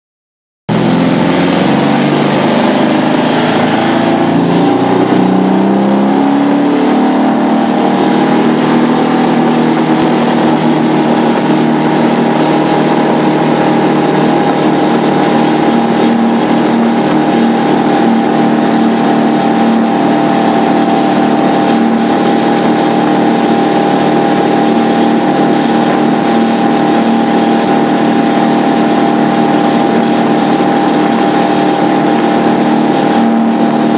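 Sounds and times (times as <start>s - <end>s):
boat engine accelerating: 0.7s - 33.9s
rushing water: 0.7s - 33.9s.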